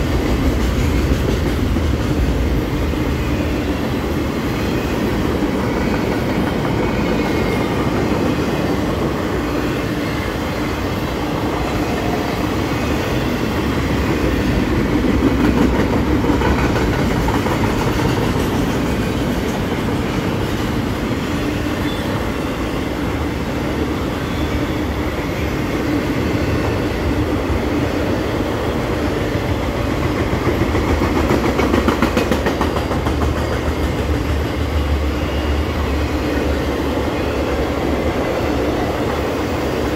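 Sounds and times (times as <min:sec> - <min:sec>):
steel wheels rumbling on rails: 0:00.0 - 0:39.9.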